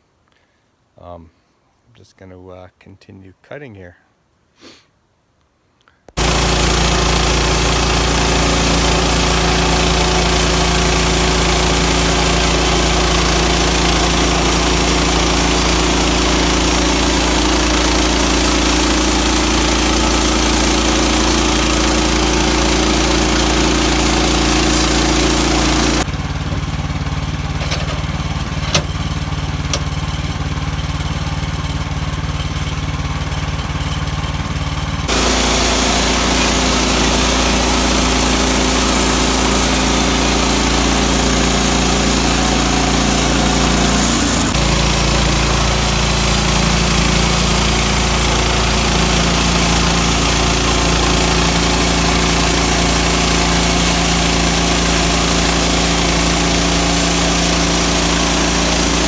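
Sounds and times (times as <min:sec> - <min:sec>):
sawmill engine cutting log: 0:06.2 - 0:59.0.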